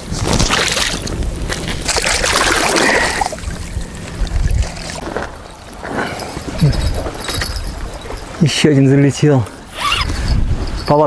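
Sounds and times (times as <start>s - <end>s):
wind rumbling on microphone: 0.0s - 8.6s, 9.6s - 11.0s
water splashing and trickling: 0.0s - 9.6s.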